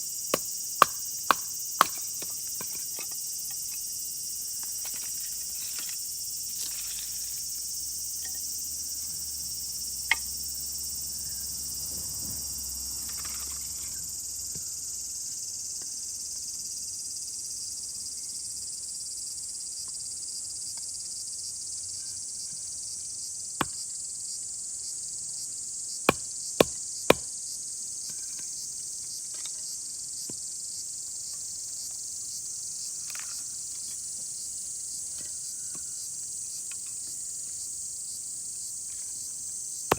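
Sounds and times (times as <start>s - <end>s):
insects buzzing high-pitched: 0.0s - 39.9s.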